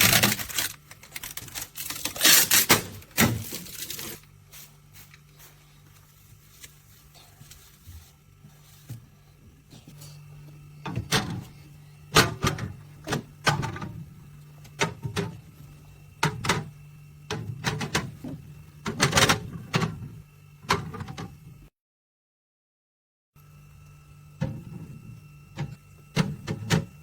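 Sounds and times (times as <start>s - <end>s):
steady low hum: 0.0s - 21.7s, 23.4s - 27.0s.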